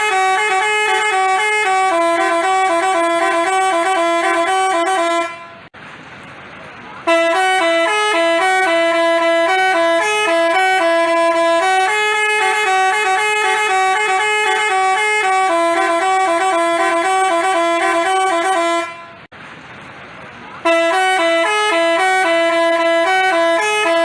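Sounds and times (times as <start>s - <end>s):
bus musical horn tune: 0.0s - 5.7s, 7.0s - 19.3s, 20.6s - 24.0s.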